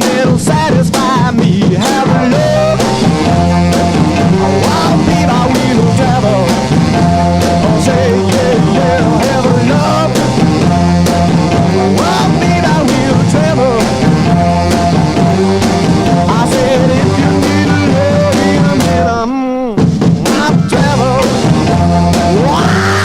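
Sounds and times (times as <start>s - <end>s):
rock music with singing: 0.0s - 23.0s.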